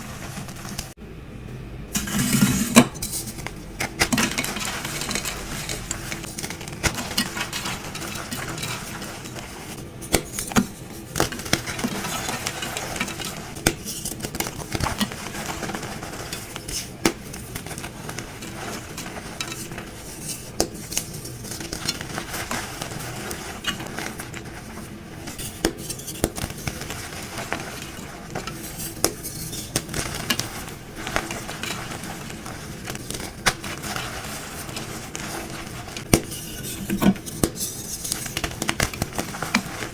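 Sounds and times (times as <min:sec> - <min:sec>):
chalk crunching and scraping: 0:00.0 - 0:01.0, 0:02.0 - 0:39.9.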